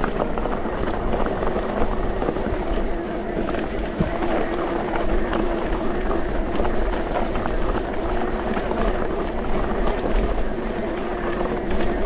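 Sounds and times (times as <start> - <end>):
bike rattling and clicking: 0.0 - 12.0
faint steady hum: 0.0 - 12.0
tyres rolling on dirt: 0.0 - 12.0.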